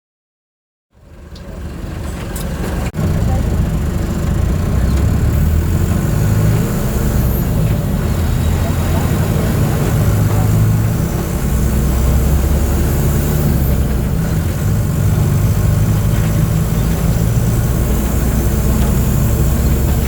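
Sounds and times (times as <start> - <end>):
bus diesel engine droning: 1.0 - 20.0.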